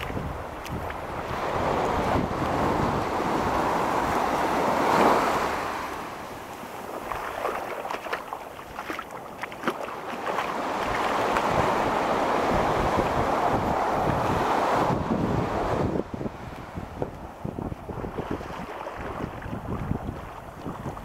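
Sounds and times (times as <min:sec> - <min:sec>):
wind buffeting microphone: 0:00.0 - 0:05.5, 0:06.8 - 0:21.0
waves washing up beach: 0:00.0 - 0:21.0.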